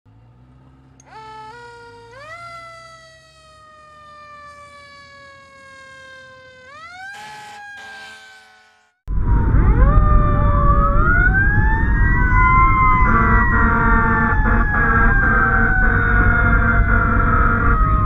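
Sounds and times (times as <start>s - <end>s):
emergency siren wailing: 1.0s - 18.0s.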